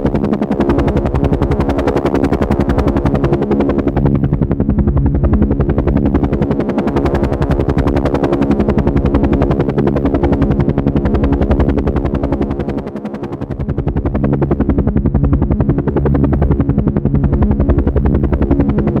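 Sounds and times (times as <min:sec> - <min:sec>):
helicopter engine drone: 0:00.0 - 0:19.0
helicopter rotor chop: 0:00.0 - 0:19.0.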